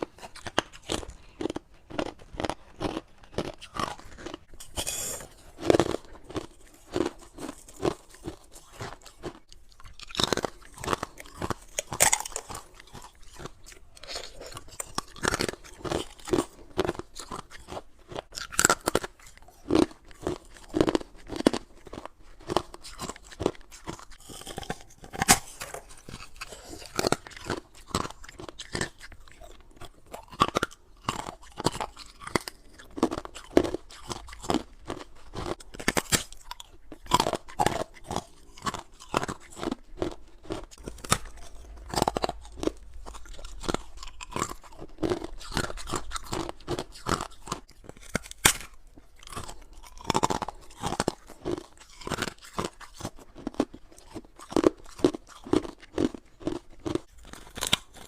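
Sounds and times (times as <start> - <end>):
ice being chewed crunching: 0.0 - 58.0.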